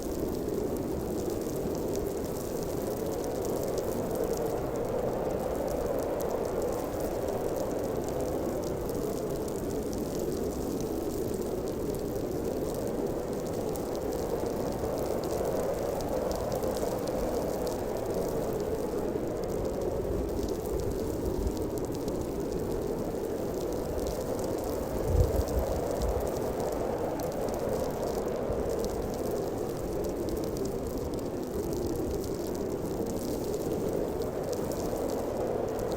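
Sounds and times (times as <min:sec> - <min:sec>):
blizzard wind blowing: 0:00.0 - 0:35.9.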